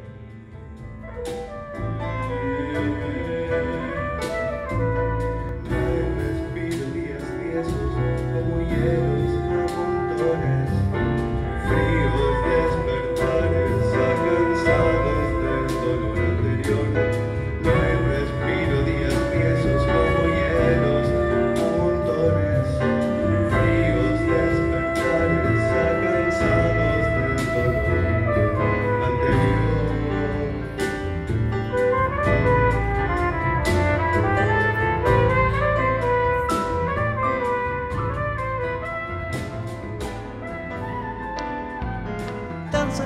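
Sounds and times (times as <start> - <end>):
double bass: 0.0 - 43.0
piano: 0.0 - 43.0
small live band playing: 0.0 - 43.0
trumpet melody: 0.0 - 43.0.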